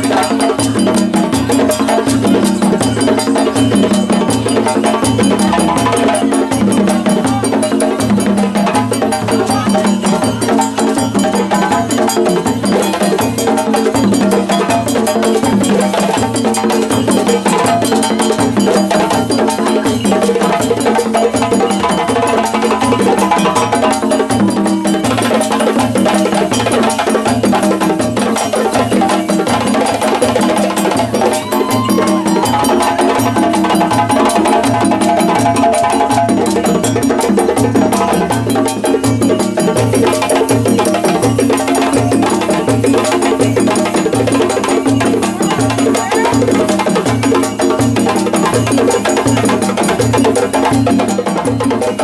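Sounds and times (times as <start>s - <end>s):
drum bells ringing: 0.0s - 52.0s
hand drums playing: 0.0s - 52.0s.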